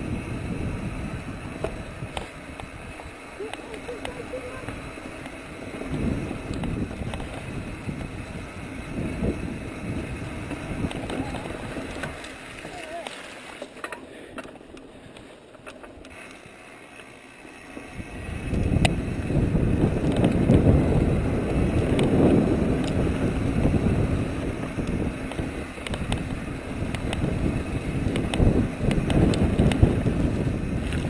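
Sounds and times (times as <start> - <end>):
wind buffeting microphone: 0.0 - 13.1, 17.8 - 31.0
bike clicks and rattles: 0.0 - 31.0
bike tyres rumbling on dirt: 0.0 - 31.0.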